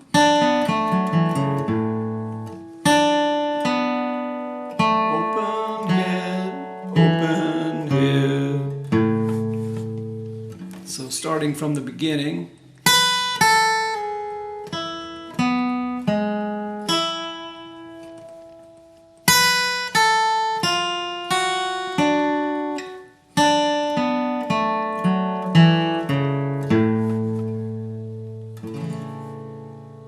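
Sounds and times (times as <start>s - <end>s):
acoustic guitar lead riff: 0.0s - 30.0s.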